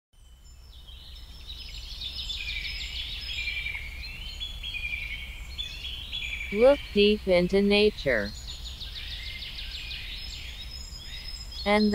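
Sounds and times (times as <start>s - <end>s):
birds chirping: 0.2s - 11.9s
low steady hum: 0.2s - 11.9s.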